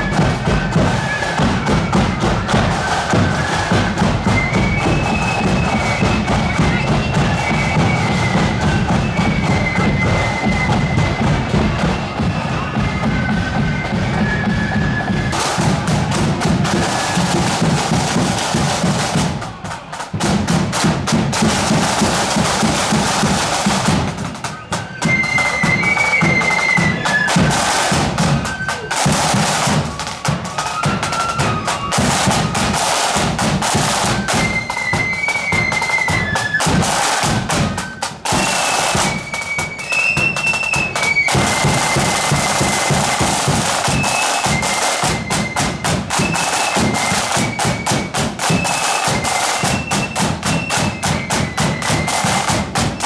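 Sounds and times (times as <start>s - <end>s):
flutes playing melody: 0.0s - 53.0s
snare and bass drums march: 0.0s - 53.0s.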